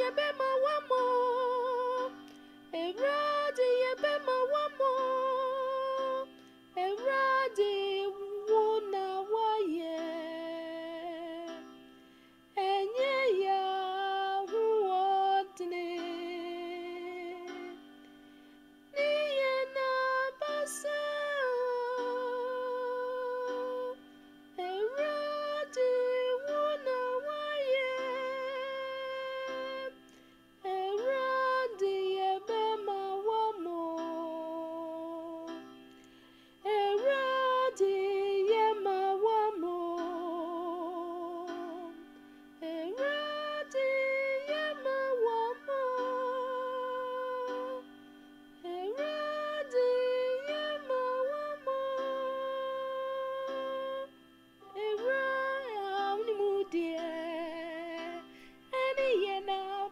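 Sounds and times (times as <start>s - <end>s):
woman singing gospel song: 0.0s - 11.6s, 12.6s - 17.8s, 18.9s - 30.0s, 30.6s - 35.5s, 36.6s - 42.0s, 42.6s - 47.9s, 48.6s - 59.9s
held accompaniment chords: 0.0s - 59.9s.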